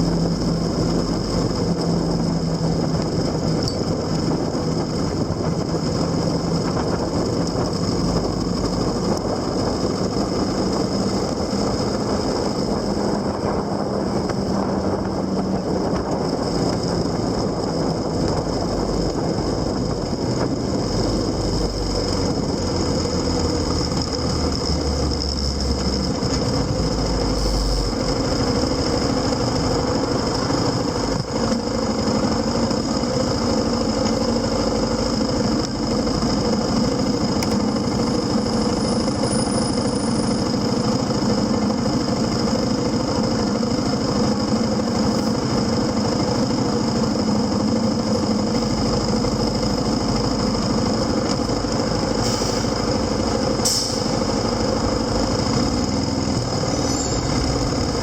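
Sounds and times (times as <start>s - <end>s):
vehicle engine running: 0.0s - 58.0s
wind and road noise: 0.0s - 58.0s.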